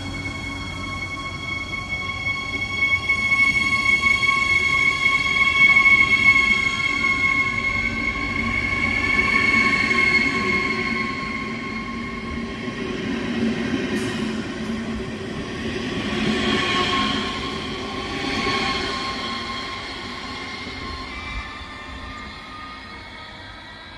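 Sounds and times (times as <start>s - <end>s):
electric train whine: 0.0s - 23.9s
train wheels rumbling: 0.0s - 23.9s.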